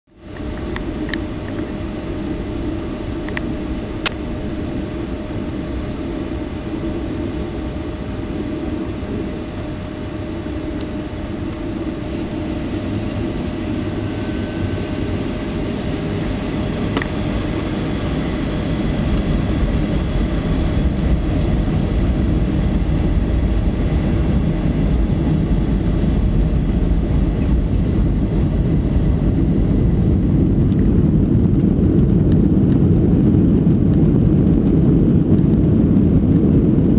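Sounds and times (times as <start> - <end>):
aircraft engines rumbling: 0.1 - 36.9.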